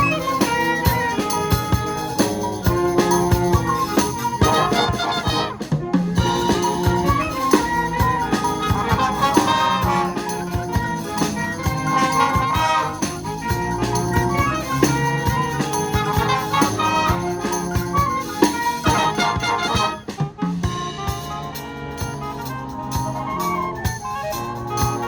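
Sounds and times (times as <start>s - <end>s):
brass and woodwinds playing chords: 0.0s - 25.0s
percussion hits: 0.0s - 25.0s.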